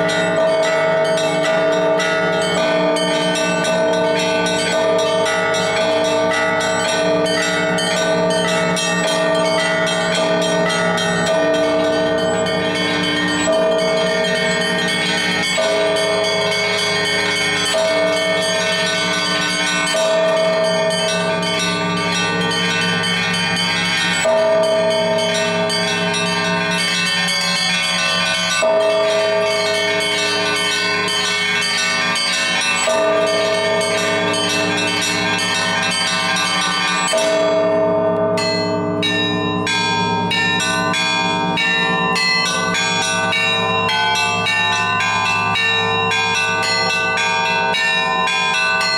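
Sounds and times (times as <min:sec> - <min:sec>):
large bell struck: 0:00.0 - 0:48.9
small high bells ringing: 0:00.0 - 0:48.9.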